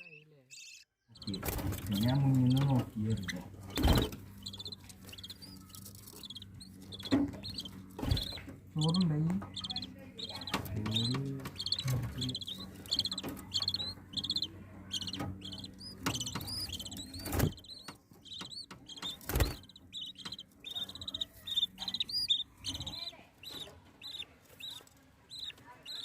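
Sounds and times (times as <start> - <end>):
lovebirds chirping: 0.0 - 26.0.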